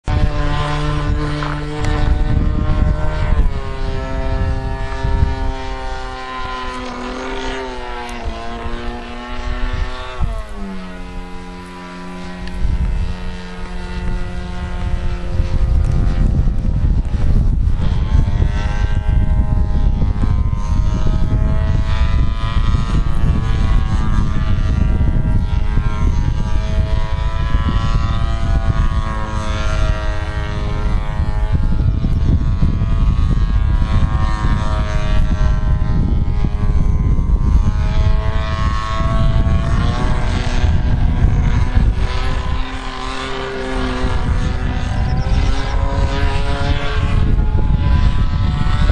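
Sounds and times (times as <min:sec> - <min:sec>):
model airplane engine: 0:00.0 - 0:48.9.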